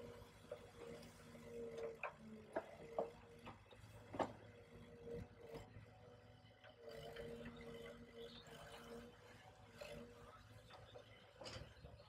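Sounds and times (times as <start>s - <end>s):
faint boat engine and crane: 0.0s - 12.0s.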